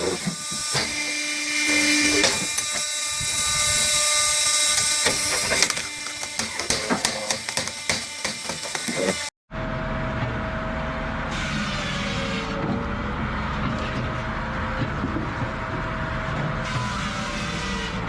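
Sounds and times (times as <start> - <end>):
log splitter motor whine: 0.0 - 18.0.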